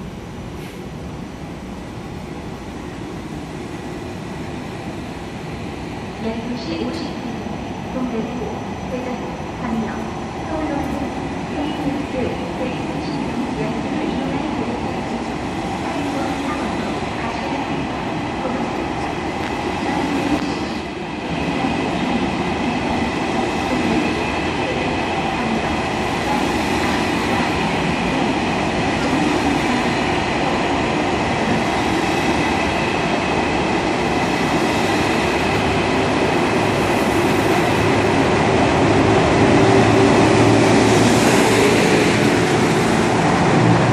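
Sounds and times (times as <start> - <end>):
train rumbling with high whine: 0.0 - 43.9.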